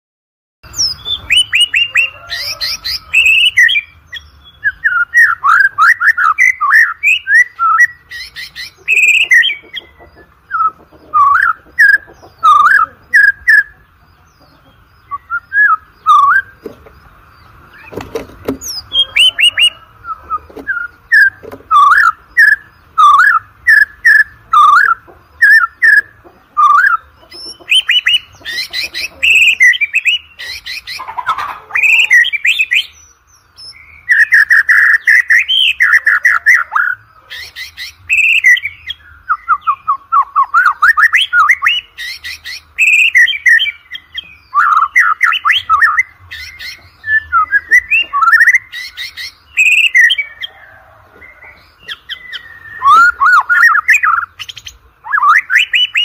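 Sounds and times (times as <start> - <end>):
bird singing whistled phrases: 0.7 - 13.8, 15.1 - 16.6, 18.6 - 31.0, 31.8 - 33.0, 33.6 - 56.0.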